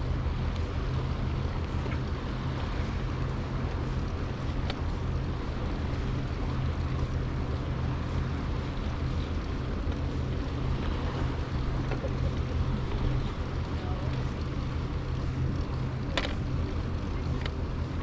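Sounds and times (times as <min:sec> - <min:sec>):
bicycle riding hiss: 0:00.0 - 0:18.0
wind rumble on microphone: 0:00.0 - 0:18.0.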